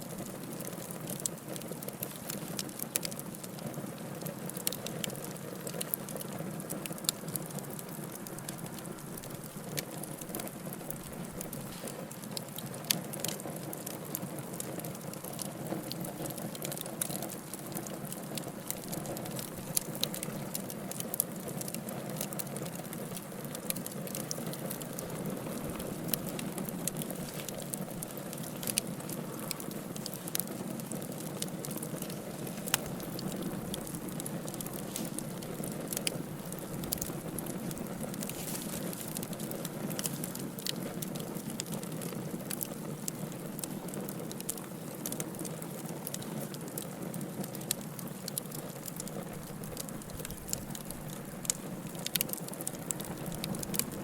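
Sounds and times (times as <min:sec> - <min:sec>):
fire crackling and popping: 0:00.0 - 0:54.0
low rush of flames: 0:00.0 - 0:54.0.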